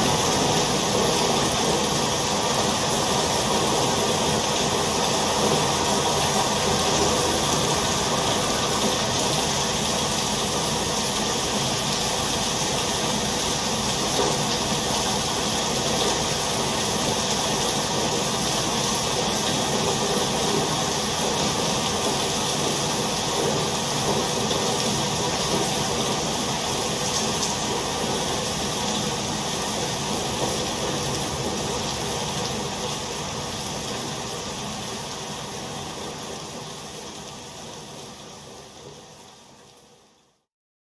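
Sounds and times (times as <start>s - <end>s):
steady rain: 0.0s - 40.5s.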